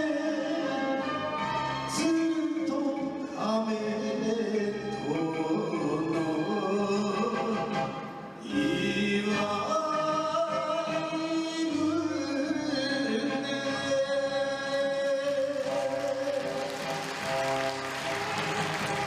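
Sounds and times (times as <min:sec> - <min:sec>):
person singing: 0:00.0 - 0:17.4
backing music: 0:00.0 - 0:19.0.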